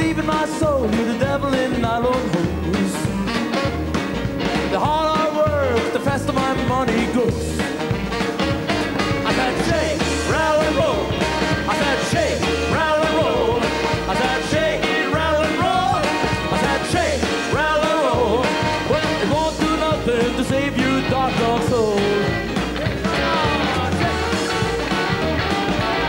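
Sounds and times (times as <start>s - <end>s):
drums: 0.0s - 26.0s
rock and roll band playing: 0.0s - 26.0s
upright bass: 0.0s - 26.0s
gliding lead guitar lines: 0.5s - 26.0s.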